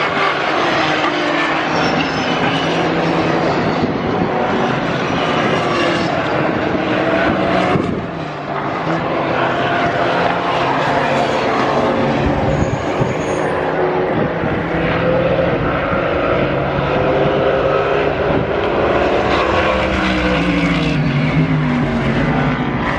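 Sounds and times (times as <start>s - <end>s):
race car engines running hard: 0.0s - 22.9s.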